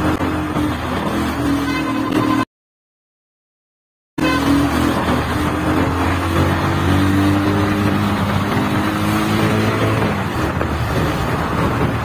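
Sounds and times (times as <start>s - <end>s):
wind and road noise: 0.0s - 2.5s, 4.2s - 12.0s.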